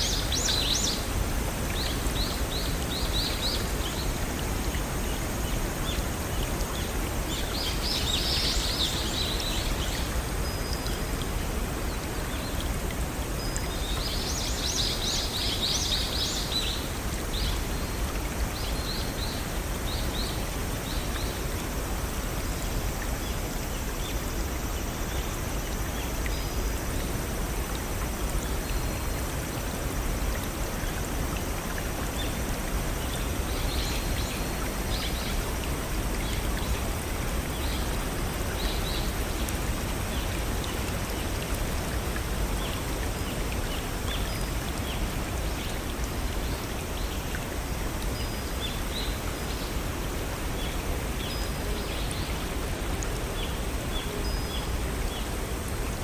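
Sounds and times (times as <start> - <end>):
waterfall and brook over rocks: 0.0 - 56.0.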